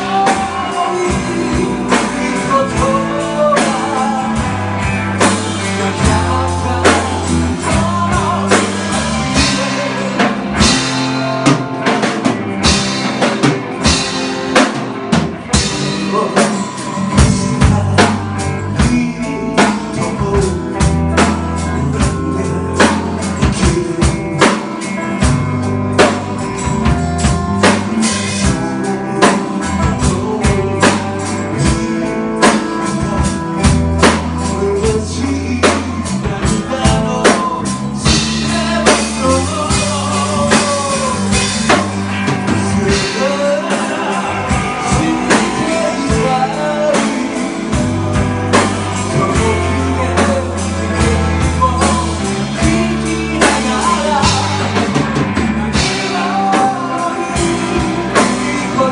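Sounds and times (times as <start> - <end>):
acoustic guitar: 0.0 - 58.9
drum kit beat: 0.0 - 58.9
electric bass: 0.0 - 58.9
man singing: 0.0 - 58.9.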